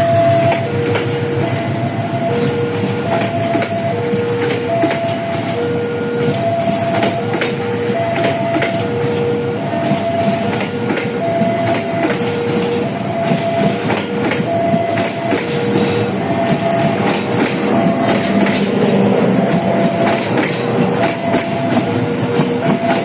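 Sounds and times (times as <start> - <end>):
train rumble: 0.0 - 23.0
train wheels clicking on rails: 0.0 - 23.0
two-tone electronic warning signal: 0.0 - 23.0.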